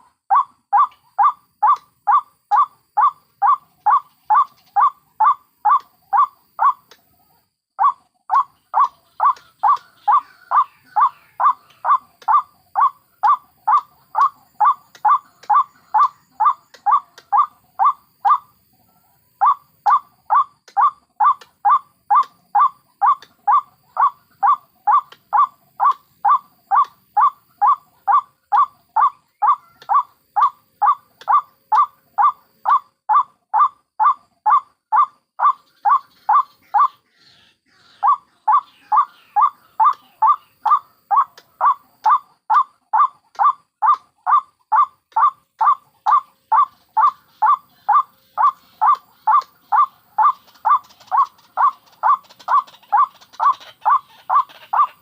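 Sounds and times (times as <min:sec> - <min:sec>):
waterhen calling: 0:00.0 - 0:06.9, 0:07.8 - 0:18.5, 0:19.4 - 0:55.0.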